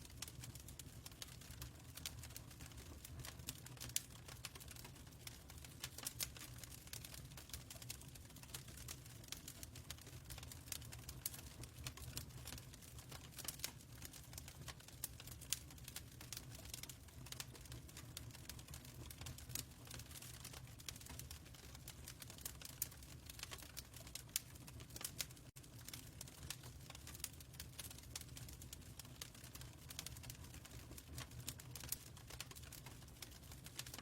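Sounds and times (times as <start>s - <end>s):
fireplace crackling: 0.0s - 34.0s.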